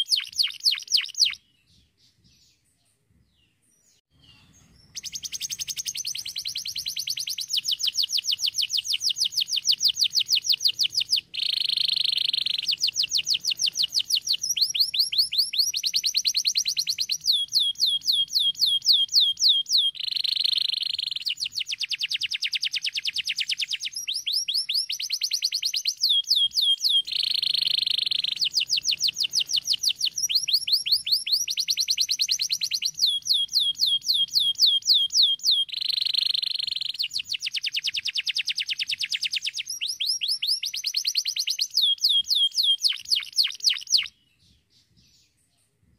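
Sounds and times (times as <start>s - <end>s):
canary singing trills: 0.0s - 2.6s, 3.4s - 45.4s.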